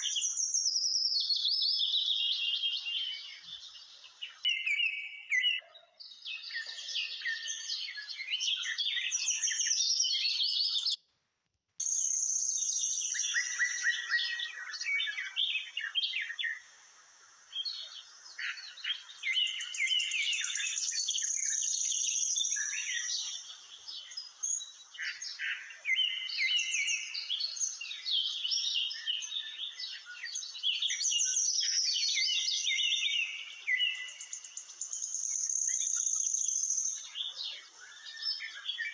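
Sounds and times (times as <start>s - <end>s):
small birds chirping: 0.0s - 11.1s, 11.8s - 38.9s.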